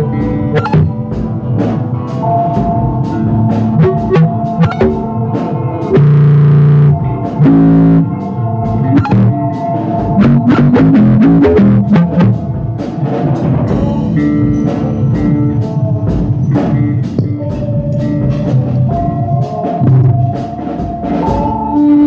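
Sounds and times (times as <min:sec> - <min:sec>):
rock band playing: 0:00.0 - 0:22.0
sustained low notes: 0:00.0 - 0:22.0.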